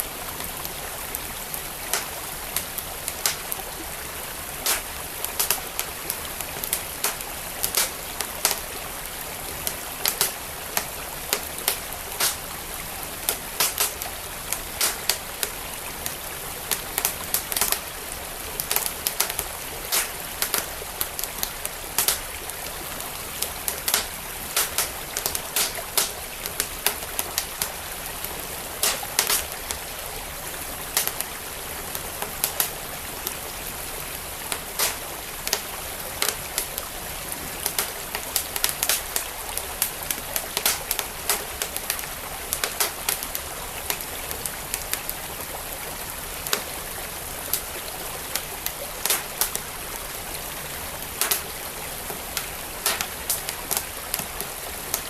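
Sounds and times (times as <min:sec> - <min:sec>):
stream flowing: 0:00.0 - 0:55.0
wood fire crackling: 0:00.0 - 0:55.0.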